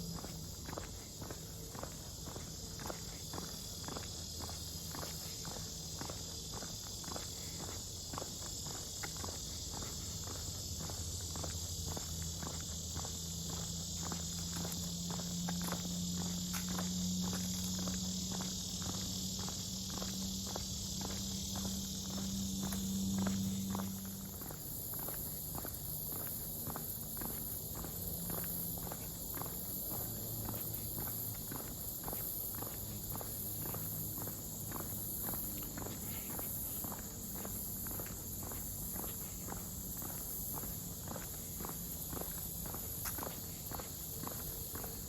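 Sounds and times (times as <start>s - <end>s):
footsteps on a trail: 0.0s - 45.0s
high insect chorus: 0.0s - 45.0s.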